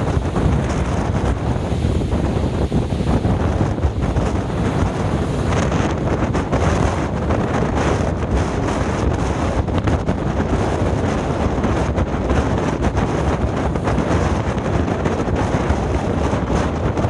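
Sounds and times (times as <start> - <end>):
waves breaking against hull: 0.0 - 17.0
wind buffeting microphone: 0.0 - 17.0.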